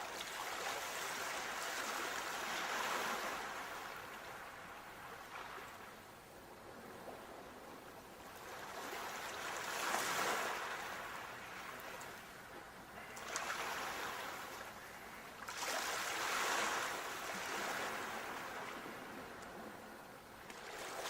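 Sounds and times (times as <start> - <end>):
sea waves washing on shore: 0.0 - 6.0, 8.3 - 21.0.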